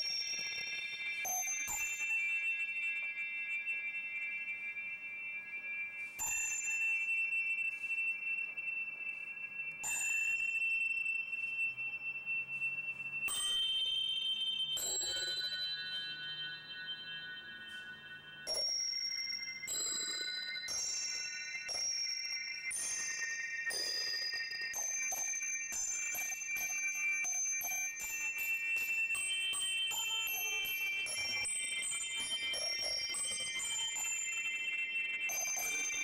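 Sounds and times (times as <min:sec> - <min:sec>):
struck metal chimes ringing: 0:00.0 - 0:36.0.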